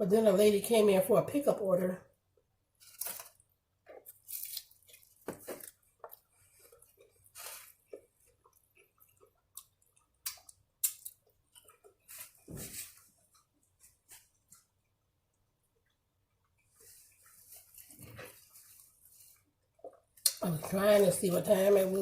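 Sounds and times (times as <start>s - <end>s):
person chewing food: 2.4s - 20.4s.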